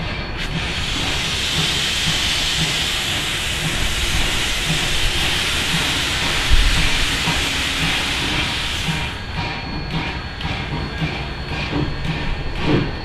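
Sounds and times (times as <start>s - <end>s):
loud hiss of steam: 0.0s - 11.1s
steam locomotive exhaust beats: 0.0s - 13.0s.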